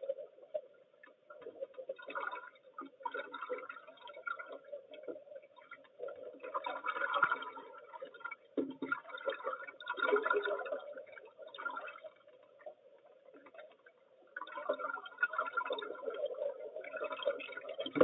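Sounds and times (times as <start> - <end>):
underwater gurgling and bubbling: 0.0 - 18.0.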